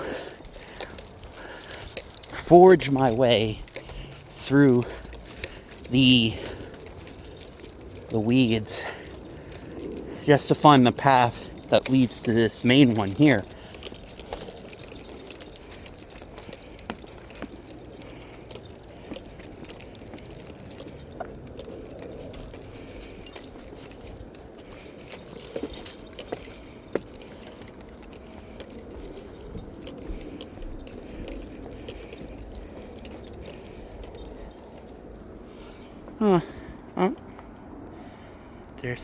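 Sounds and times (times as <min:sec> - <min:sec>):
footsteps on a path: 0:00.0 - 0:36.7
keys jingling: 0:00.0 - 0:37.2.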